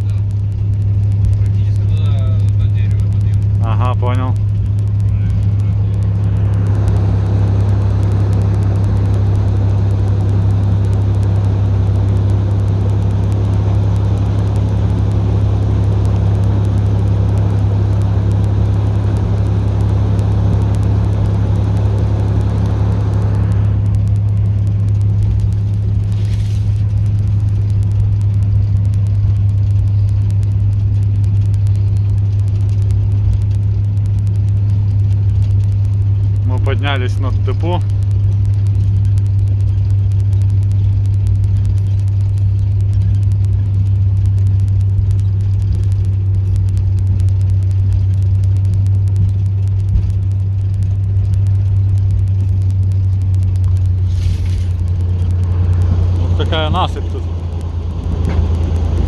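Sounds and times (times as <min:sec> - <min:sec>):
diesel locomotive engine droning: 0:00.0 - 0:59.0
rough high engine noise: 0:00.0 - 0:59.0.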